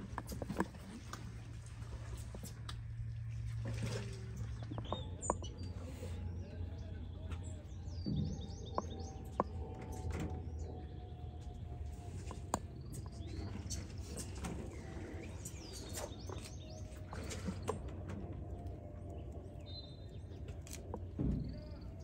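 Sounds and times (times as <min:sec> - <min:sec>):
steady low rumble: 0:00.0 - 0:22.0
small birds chirping: 0:04.4 - 0:22.0.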